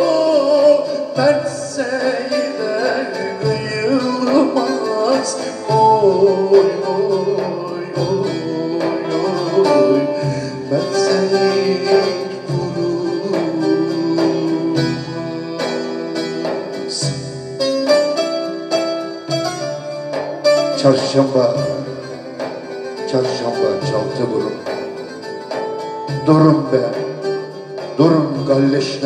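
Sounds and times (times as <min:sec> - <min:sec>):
electronic keyboard melody: 0:00.0 - 0:29.0
live band playing folk music: 0:00.0 - 0:29.0.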